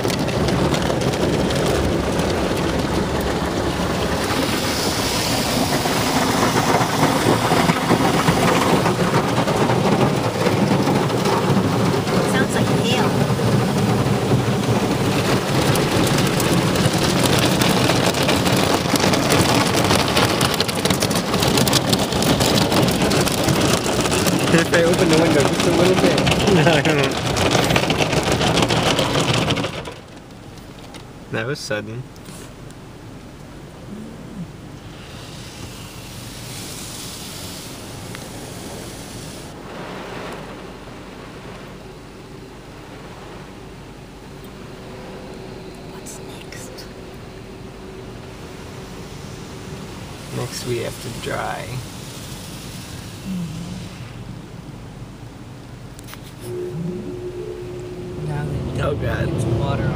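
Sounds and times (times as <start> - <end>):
water and foam drumming on car: 0.0 - 31.8, 34.6 - 45.6, 47.6 - 55.9, 58.5 - 59.9.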